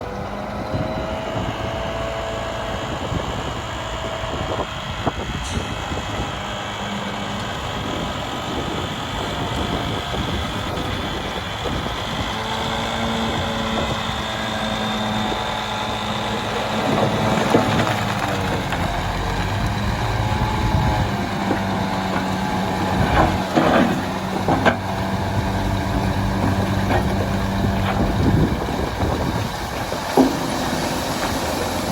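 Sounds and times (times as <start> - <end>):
heavy diesel machinery engine: 0.0 - 31.9.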